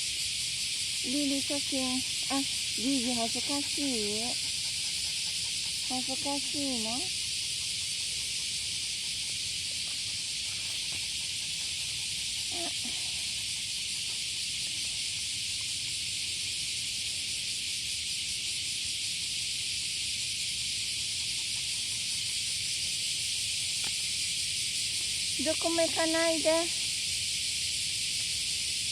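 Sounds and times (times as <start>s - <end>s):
cicadas buzzing: 0.0s - 28.9s.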